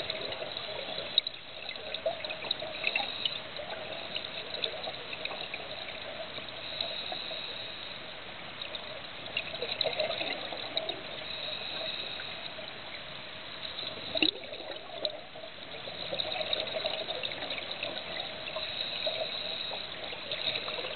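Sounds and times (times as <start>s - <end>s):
faint crackling ticks: 0.0s - 13.0s, 13.6s - 20.9s
underwater watery hiss: 0.0s - 13.0s, 13.6s - 20.9s.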